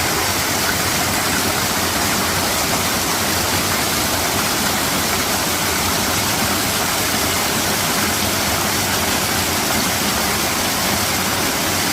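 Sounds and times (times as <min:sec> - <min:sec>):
stream rushing: 0:00.0 - 0:11.9.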